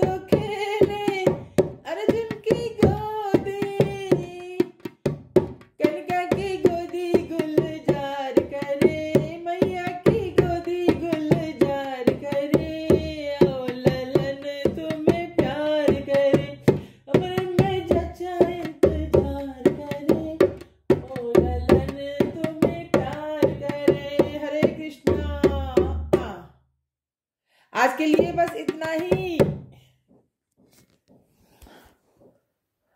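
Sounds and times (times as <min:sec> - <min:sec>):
women singing folk song: 0:00.0 - 0:04.8, 0:05.8 - 0:26.4, 0:27.8 - 0:29.4
hand percussion beat: 0:00.0 - 0:26.4, 0:28.0 - 0:29.6.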